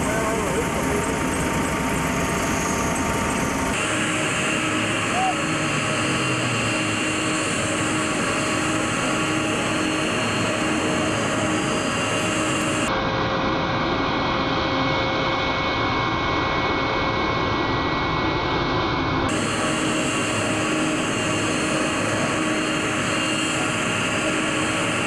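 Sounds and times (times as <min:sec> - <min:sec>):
aircraft turbine engines whining: 0:00.0 - 0:25.0.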